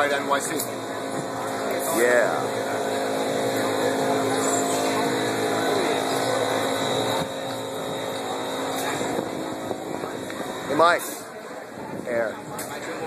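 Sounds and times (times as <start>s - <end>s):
motor drone with steady tones: 0.0s - 13.0s.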